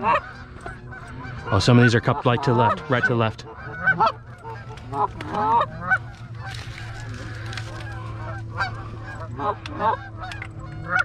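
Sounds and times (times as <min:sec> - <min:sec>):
goose honks and clucks: 0:00.0 - 0:11.0
steady low hum: 0:00.0 - 0:11.0.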